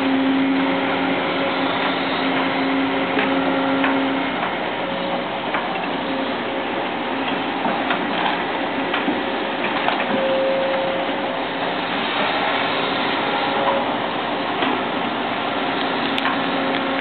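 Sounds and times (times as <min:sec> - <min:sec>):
excavator machine noise with whine: 0:00.0 - 0:17.0.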